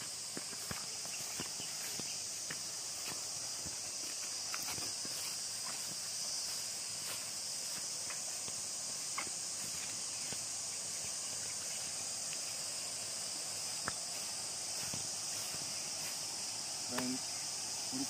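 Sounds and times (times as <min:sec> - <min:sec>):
footsteps on grass: 0:00.0 - 0:18.0
high-pitched insect chorus: 0:00.0 - 0:18.0.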